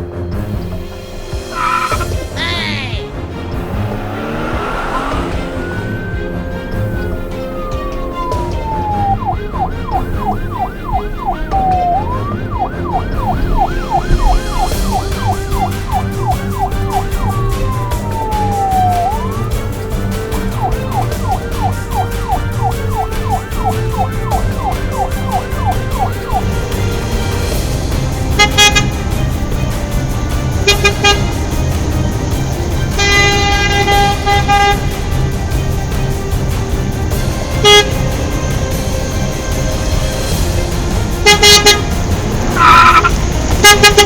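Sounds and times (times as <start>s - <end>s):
background music with steady beat: 0.0s - 44.0s
emergency vehicle siren: 0.4s - 44.0s.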